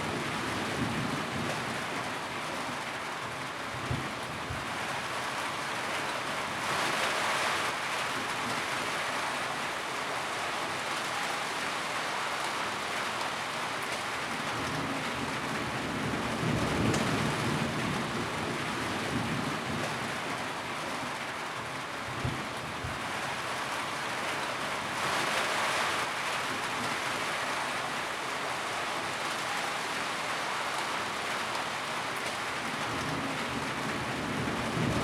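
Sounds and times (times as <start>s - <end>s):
rain drumming on a tin roof: 0.0s - 35.0s.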